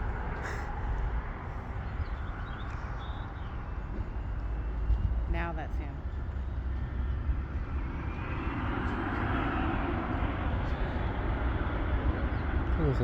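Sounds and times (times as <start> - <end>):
faint rising engine whine: 0.0 - 13.0
jet engines roaring: 0.0 - 13.0.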